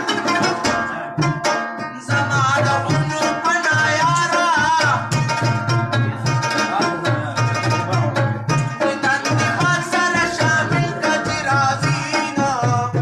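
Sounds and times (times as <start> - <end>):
steady drum beat: 0.0 - 13.0
sustained folk melody: 0.0 - 13.0.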